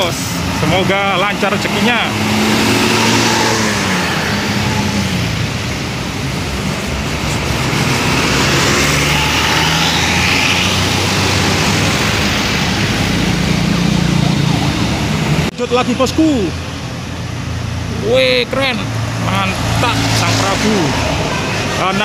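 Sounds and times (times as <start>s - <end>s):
bus engines passing: 0.0s - 22.0s
road traffic noise: 0.0s - 22.0s.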